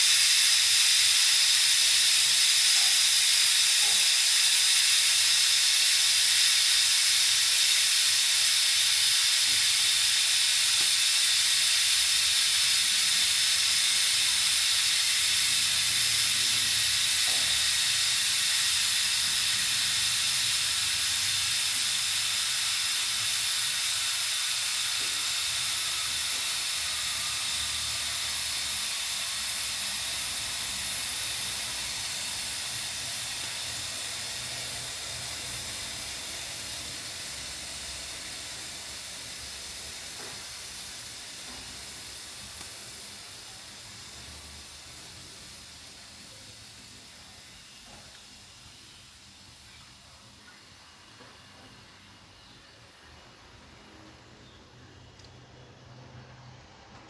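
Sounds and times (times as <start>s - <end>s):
pressure cooker hissing steam: 0.0s - 54.8s.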